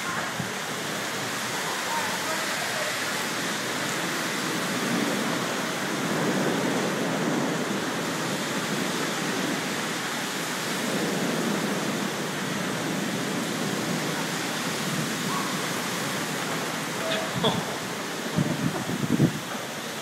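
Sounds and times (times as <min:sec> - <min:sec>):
torrential rain in wind: 0:00.0 - 0:20.0.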